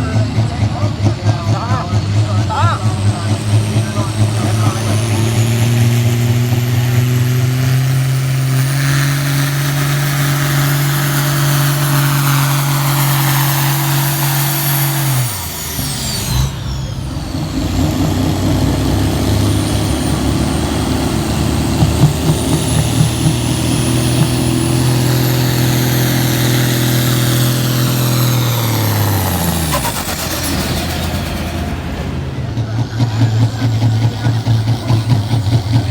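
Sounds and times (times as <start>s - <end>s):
tractor diesel engine at full throttle: 0.0s - 35.9s.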